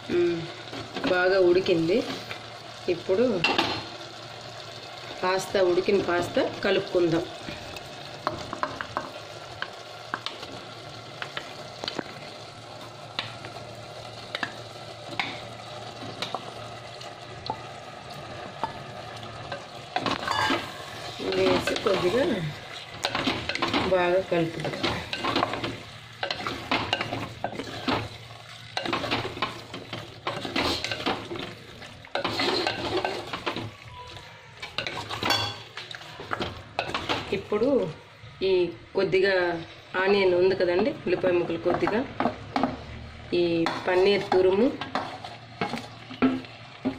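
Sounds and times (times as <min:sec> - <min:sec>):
gravy sizzling in a pot: 0:00.0 - 0:46.9.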